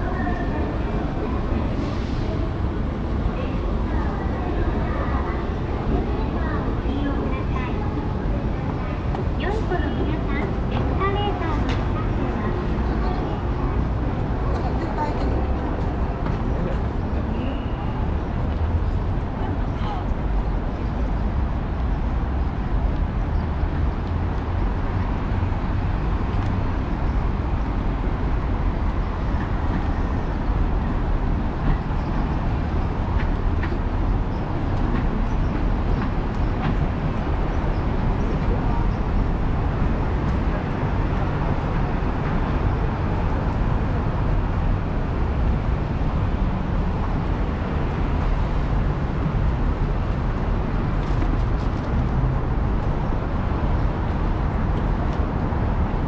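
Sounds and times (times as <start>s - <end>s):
traffic: 0.0s - 56.0s.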